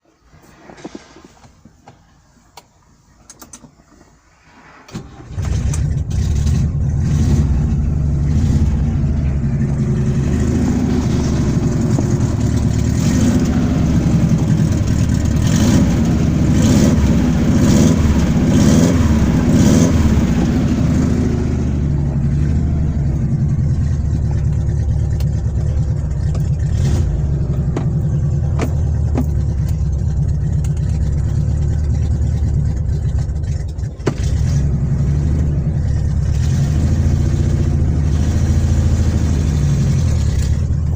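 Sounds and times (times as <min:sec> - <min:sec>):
car engine starting and revving: 0:04.5 - 0:40.9
car engine idling: 0:05.1 - 0:40.9.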